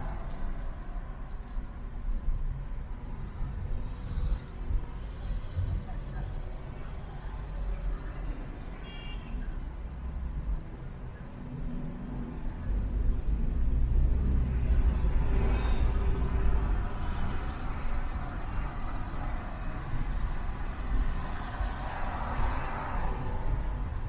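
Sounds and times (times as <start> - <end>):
road rumble: 0.0 - 24.0
traffic noise: 0.0 - 24.0.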